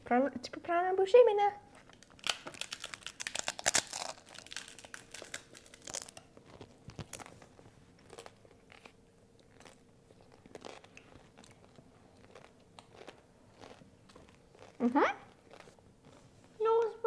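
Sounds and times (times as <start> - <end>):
taco shells crunching when chewed: 1.8 - 16.3.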